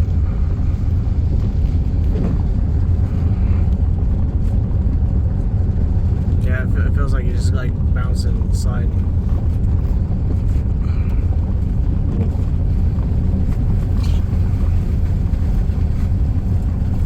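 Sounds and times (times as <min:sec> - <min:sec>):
car engine: 0:00.0 - 0:17.0
tyres on gravel road: 0:00.0 - 0:17.0.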